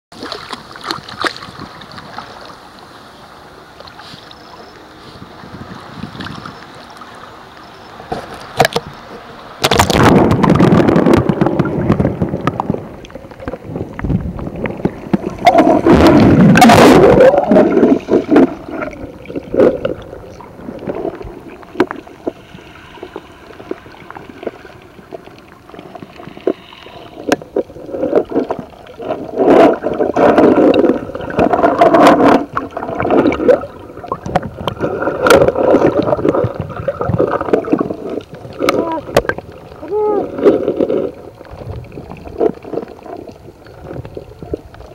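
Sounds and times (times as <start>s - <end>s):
rushing splashing water: 0.1s - 2.6s, 5.2s - 44.9s
water sloshing and gurgling: 0.1s - 44.9s.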